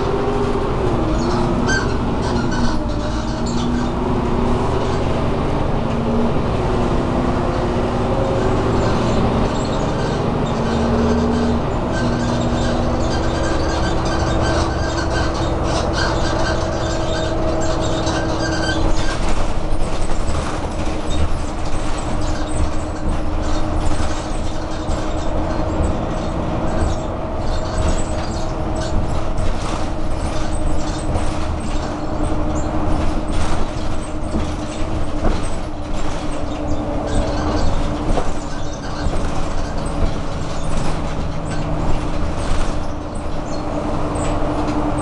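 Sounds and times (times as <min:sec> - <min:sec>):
bus engine and road rumble: 0:00.0 - 0:45.0
body and fittings rattling: 0:07.5 - 0:45.0.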